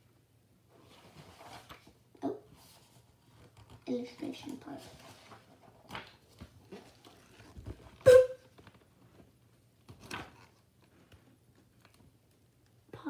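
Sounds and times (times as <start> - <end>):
rustling of book pages: 0.7 - 12.7.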